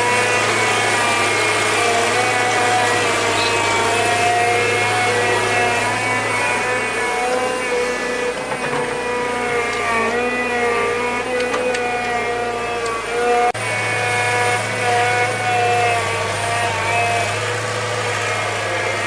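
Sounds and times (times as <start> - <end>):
small engine running at high speed: 0.0 - 19.0.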